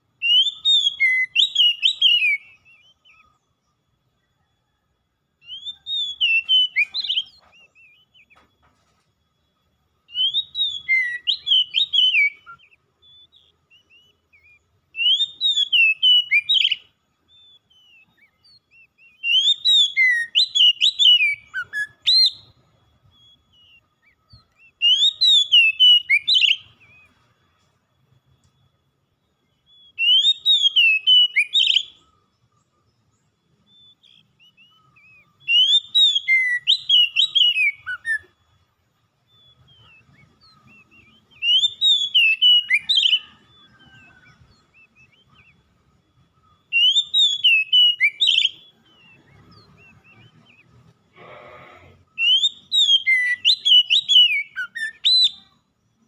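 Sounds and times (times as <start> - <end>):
bird singing whistled phrases: 0.2 - 3.5, 5.4 - 8.4, 10.0 - 27.2, 29.5 - 32.2, 33.6 - 38.6, 39.2 - 56.0.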